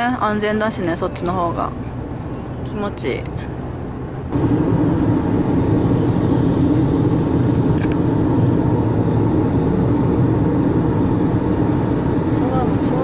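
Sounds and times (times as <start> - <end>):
car engine drone: 0.0 - 13.0
road and tyre noise: 0.0 - 13.0.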